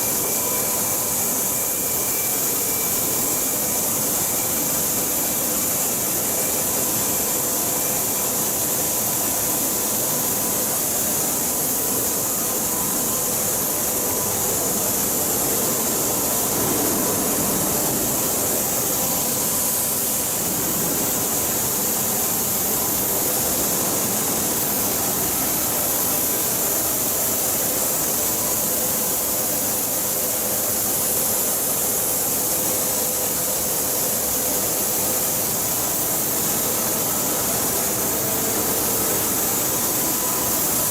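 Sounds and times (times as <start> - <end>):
machine hiss and hum: 0.0 - 40.9.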